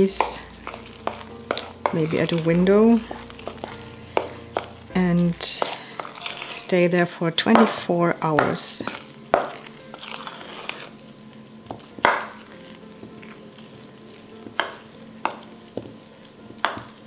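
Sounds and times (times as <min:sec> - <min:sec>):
dough stirred in metal bowl: 0:00.0 - 0:11.1, 0:11.8 - 0:17.0.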